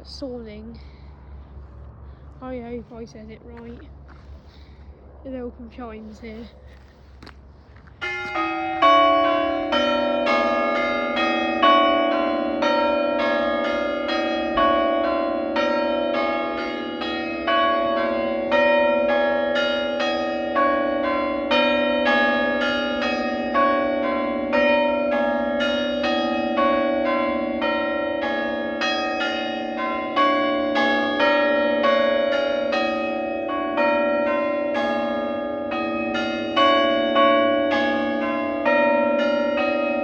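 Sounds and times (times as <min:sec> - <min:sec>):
church bells ringing: 0:07.9 - 0:40.0.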